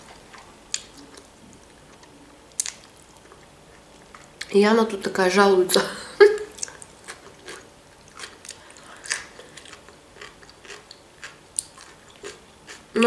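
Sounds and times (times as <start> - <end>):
person chewing food: 0.0 - 4.5, 6.5 - 12.9.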